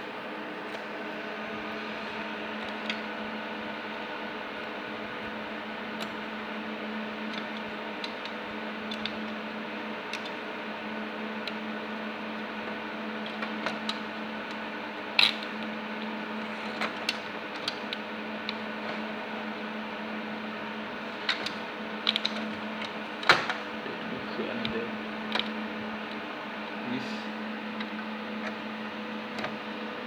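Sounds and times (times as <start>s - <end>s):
machine hum with fan drone: 0.0s - 30.0s.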